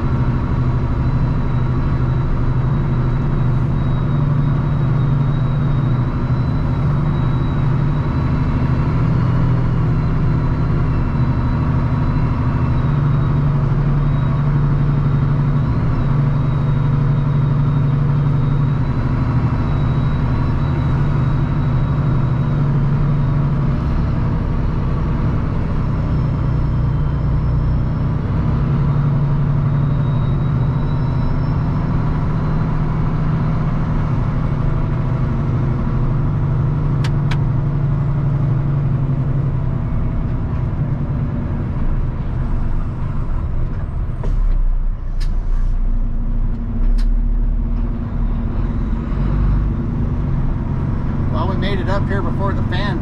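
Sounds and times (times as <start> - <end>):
truck diesel engine droning: 0.0 - 53.0.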